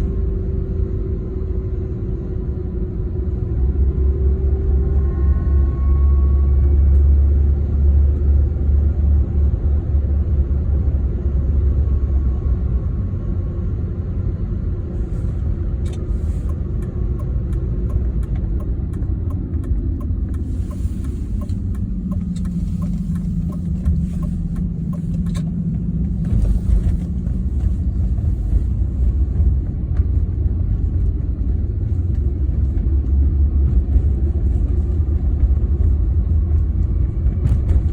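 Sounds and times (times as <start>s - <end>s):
low rumble from car driveline: 0.0s - 37.9s.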